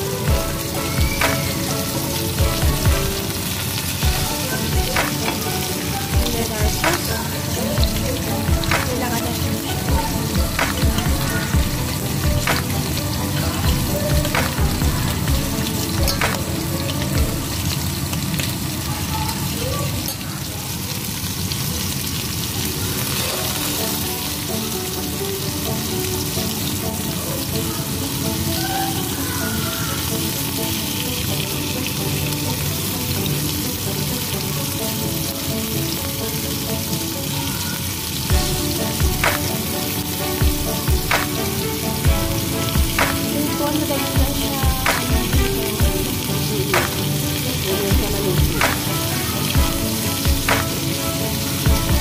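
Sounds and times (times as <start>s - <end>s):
skewers sizzling in oil: 0.0s - 52.0s.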